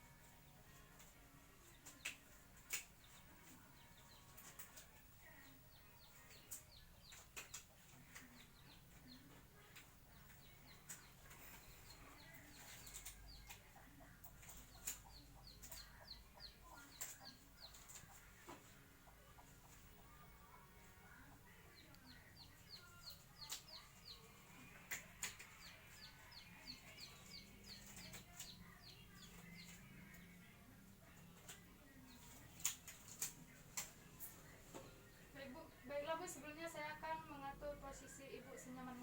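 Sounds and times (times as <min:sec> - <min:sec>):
faint bird chirping: 0:00.0 - 0:39.0.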